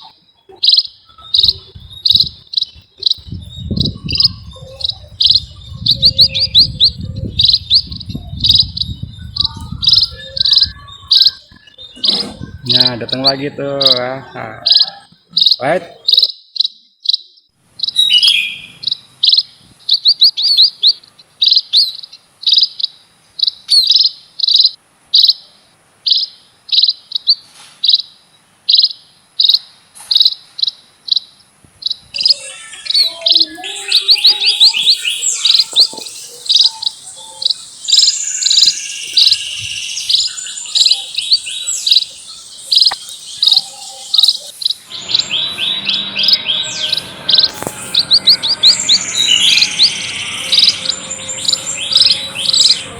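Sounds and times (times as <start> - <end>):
flock of small birds chirping: 0.0 - 52.9.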